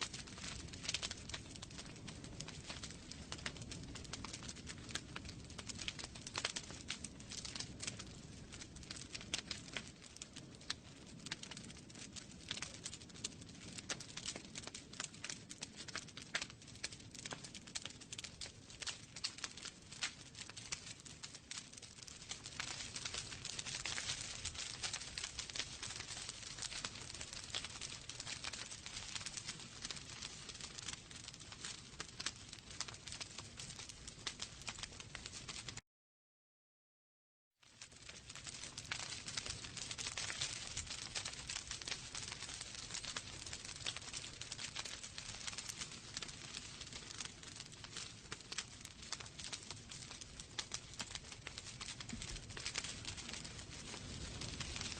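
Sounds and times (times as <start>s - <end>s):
fire hiss and rumble: 0.0s - 35.8s, 37.8s - 54.9s
wood fire crackling: 0.0s - 35.8s, 37.6s - 54.9s.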